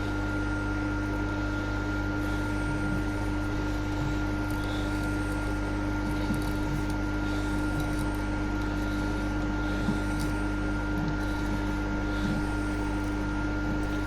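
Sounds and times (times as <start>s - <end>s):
milling machine motor hum: 0.0s - 14.0s.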